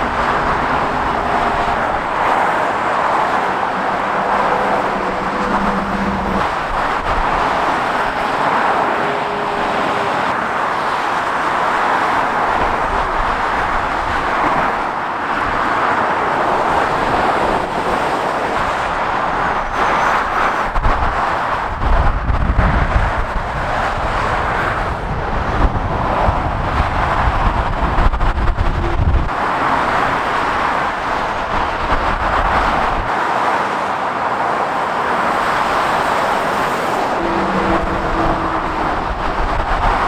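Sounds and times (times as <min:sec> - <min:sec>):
motorway traffic noise: 0:00.0 - 0:40.0.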